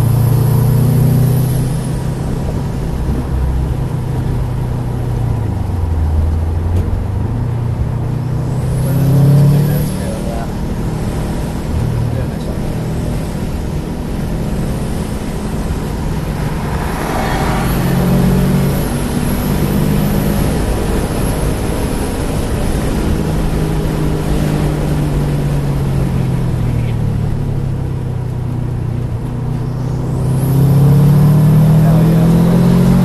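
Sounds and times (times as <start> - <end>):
car engine accelerating: 0.0 - 33.0
wind and road noise: 0.0 - 33.0.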